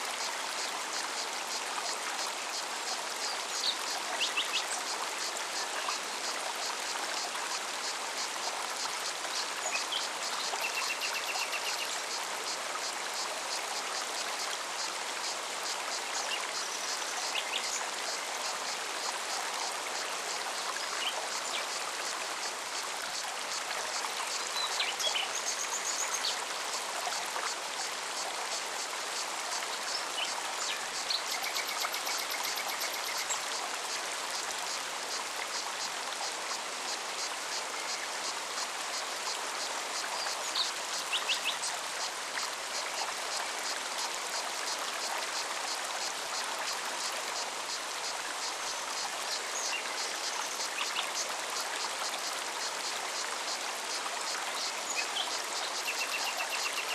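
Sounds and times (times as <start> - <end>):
stream running over rocks: 0.0 - 56.9.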